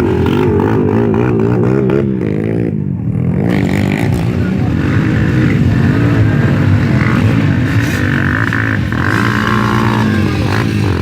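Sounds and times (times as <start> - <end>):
motocross motorcycle engines revving: 0.0 - 11.0.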